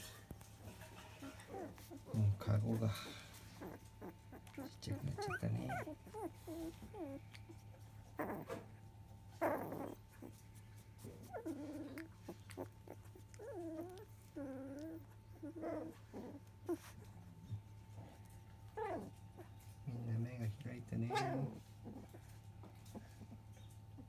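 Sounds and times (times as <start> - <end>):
puppies whimpering and squeaking: 0.0 - 24.0
rustling: 0.0 - 24.0.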